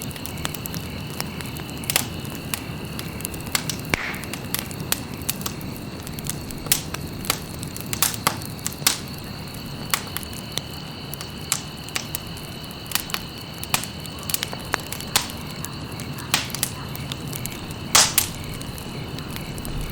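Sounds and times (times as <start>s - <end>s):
campfire crackling and popping: 0.0s - 19.9s.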